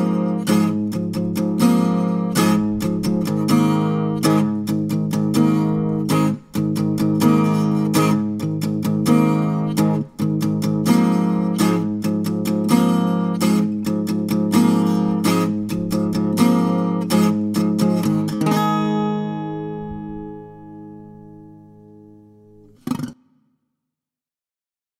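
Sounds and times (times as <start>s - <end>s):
guitar strumming chords: 0.0s - 23.2s.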